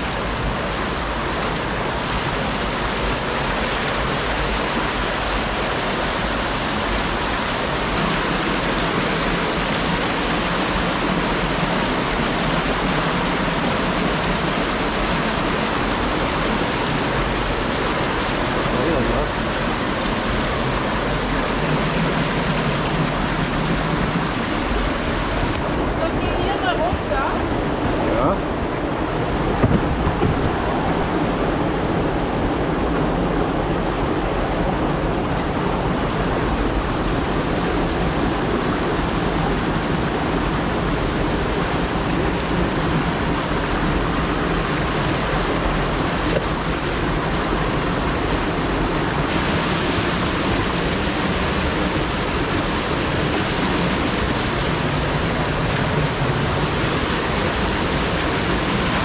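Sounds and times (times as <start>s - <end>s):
creek rushing over rocks: 0.0s - 59.0s.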